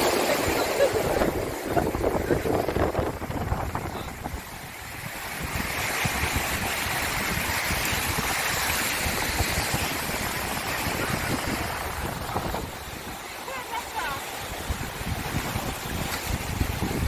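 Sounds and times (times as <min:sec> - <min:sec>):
sea surf washing in: 0:00.0 - 0:17.0
wind buffeting microphone: 0:00.0 - 0:17.0.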